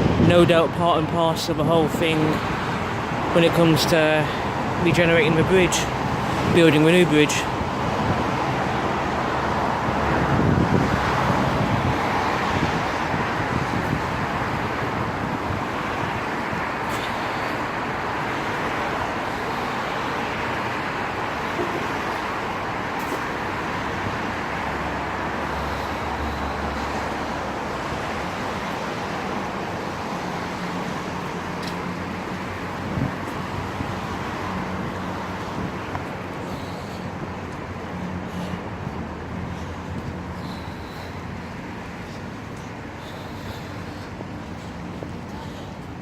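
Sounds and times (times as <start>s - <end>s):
vehicle passing: 5.4s - 46.0s
tyres hissing on wet road: 7.3s - 46.0s.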